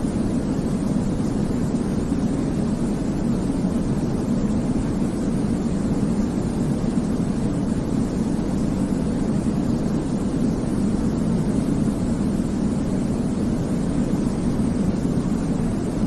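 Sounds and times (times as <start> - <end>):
muffled white noise rush: 0.0 - 16.0.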